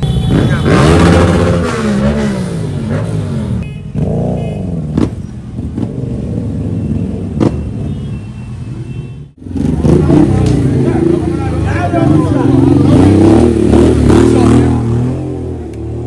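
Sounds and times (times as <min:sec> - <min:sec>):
vehicle engines revving: 0:00.0 - 0:16.0.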